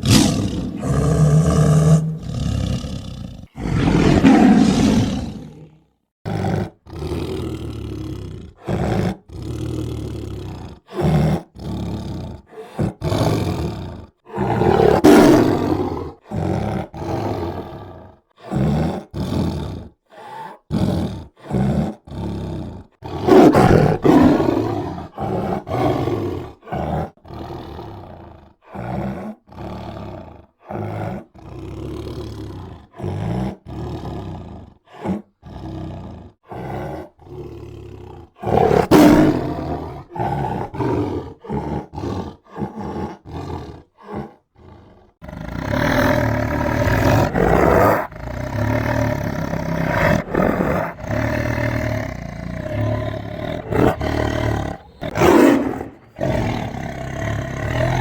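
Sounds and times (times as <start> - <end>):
tiger growling: 0.0 - 58.0
tiger roaring: 0.0 - 58.0.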